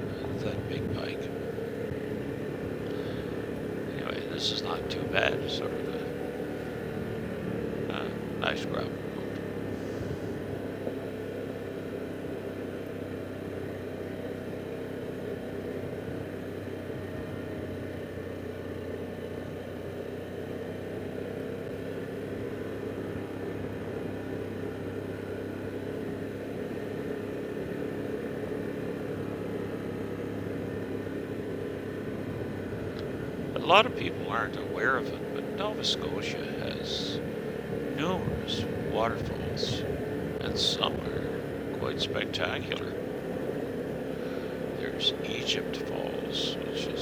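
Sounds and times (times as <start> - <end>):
motorcycle engine cruising: 0.0 - 47.0.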